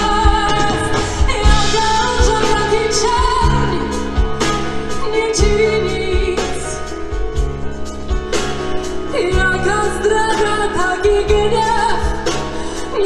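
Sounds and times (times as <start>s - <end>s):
woman singing: 0.0s - 7.4s, 9.0s - 13.0s
pop ballad band playing: 0.0s - 13.0s.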